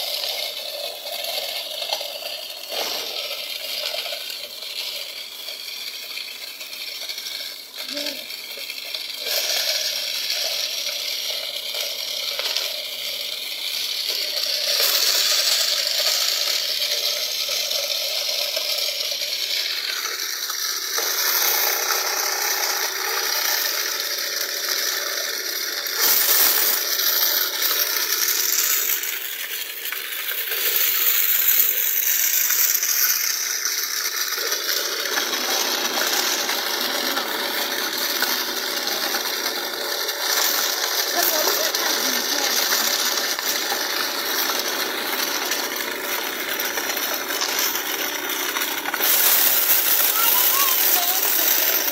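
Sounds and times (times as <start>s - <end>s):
toy belt drive metallic rattle: 0.0s - 51.9s.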